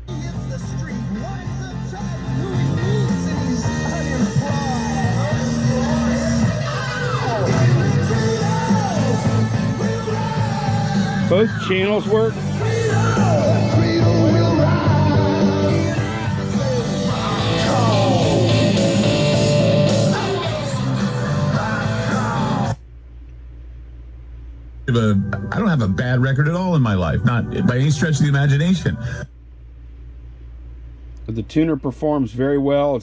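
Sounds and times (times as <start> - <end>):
radio music with singing: 0.0 - 22.8, 24.9 - 29.4.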